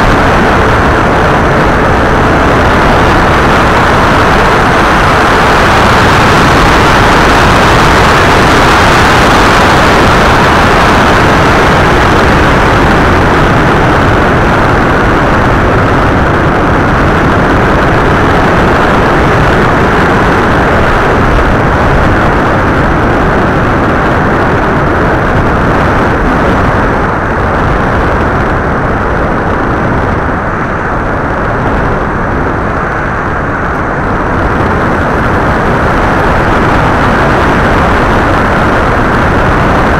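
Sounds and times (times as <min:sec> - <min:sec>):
propeller noise: 0:00.0 - 0:39.9
wind rushing: 0:00.0 - 0:39.9.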